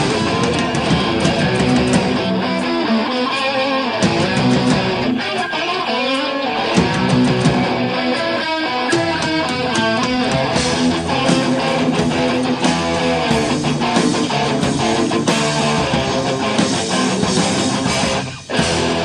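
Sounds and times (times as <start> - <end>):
bass guitar: 0.0 - 19.0
distorted electric guitar riff: 0.0 - 19.0
drums and cymbals: 0.0 - 19.0.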